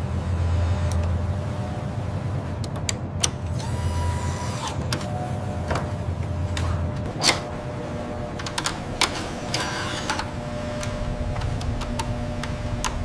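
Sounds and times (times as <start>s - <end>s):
faint steady hum: 0.0s - 13.0s
rattling whirr: 0.0s - 13.0s.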